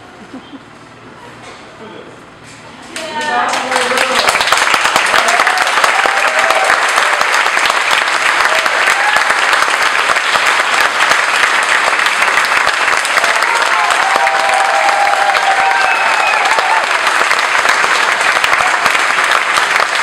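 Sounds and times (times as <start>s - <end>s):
crowd applauding: 3.0s - 20.0s.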